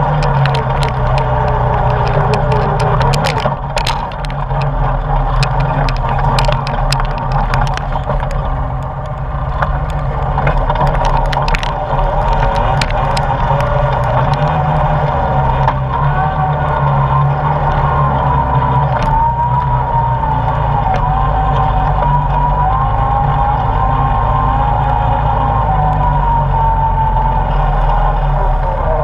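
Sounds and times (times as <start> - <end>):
atv engine running: 0.0 - 29.0
gravel rattling under tyres: 0.0 - 29.0.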